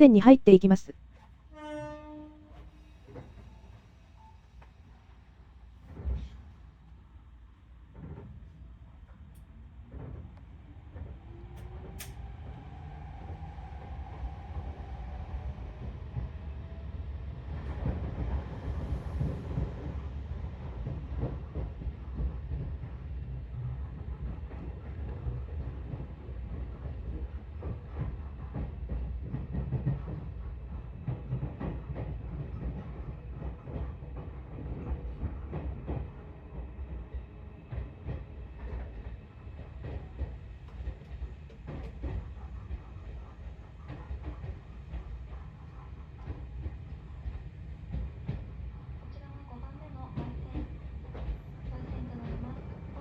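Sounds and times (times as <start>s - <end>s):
train rumbling: 2.6s - 53.0s.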